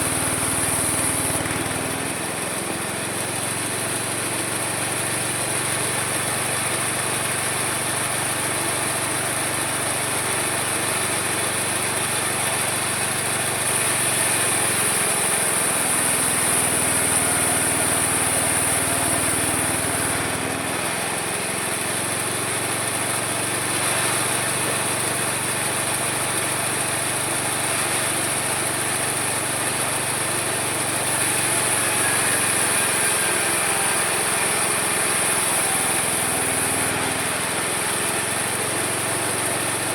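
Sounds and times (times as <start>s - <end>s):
sawmill sawing wood: 0.0s - 39.9s.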